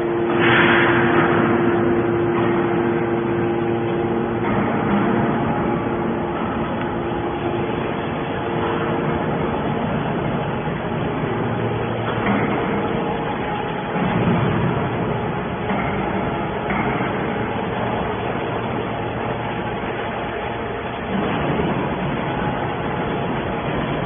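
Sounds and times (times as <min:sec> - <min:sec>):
scrap metal baler droning: 0:00.0 - 0:24.0.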